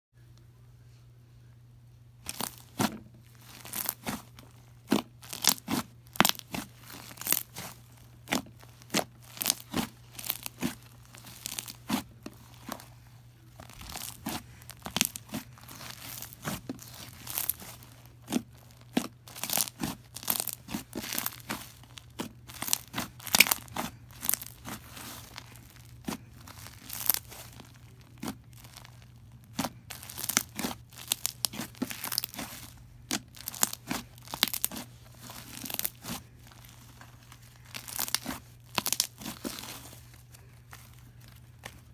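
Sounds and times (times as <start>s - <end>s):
slime crackling and tearing: 2.2s - 41.9s.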